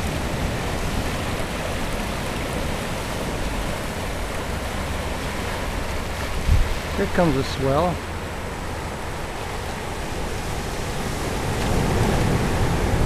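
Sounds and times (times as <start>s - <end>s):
surf breaking over rocks: 0.0s - 13.0s.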